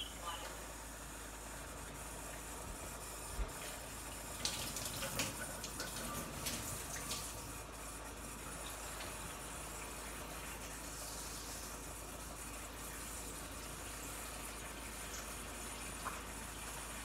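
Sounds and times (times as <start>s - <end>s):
tap water running: 1.8s - 17.0s.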